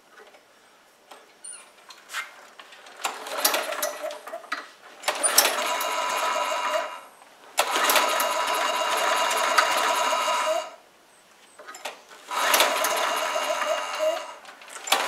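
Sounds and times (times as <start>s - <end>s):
lawnmower engine pull-starting: 1.5s - 10.8s, 11.6s - 15.0s.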